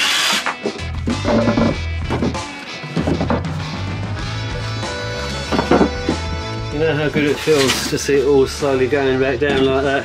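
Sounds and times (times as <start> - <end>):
guitar music: 0.5 - 10.0.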